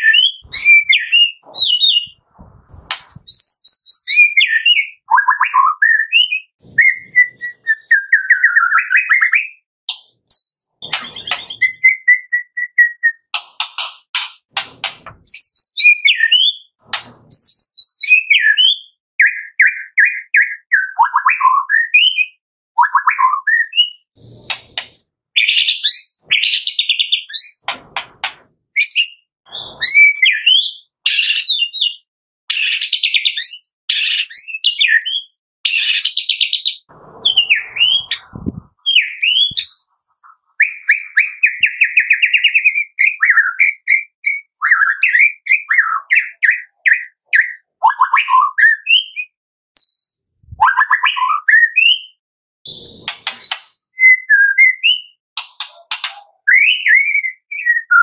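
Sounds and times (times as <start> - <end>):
bird singing varied phrases: 0.0 - 2.2, 3.2 - 13.4, 15.2 - 24.1, 28.8 - 39.9, 40.6 - 55.2, 56.3 - 58.0.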